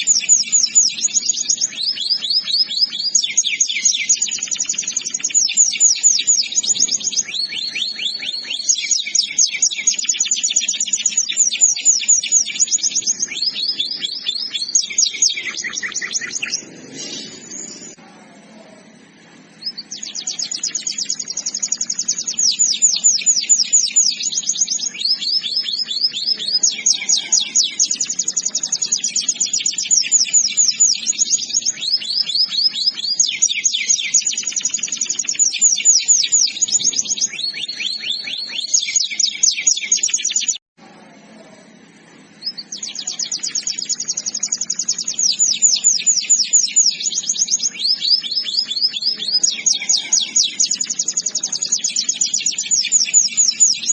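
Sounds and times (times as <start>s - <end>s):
canary singing trills: 0.0s - 40.6s, 41.6s - 53.9s.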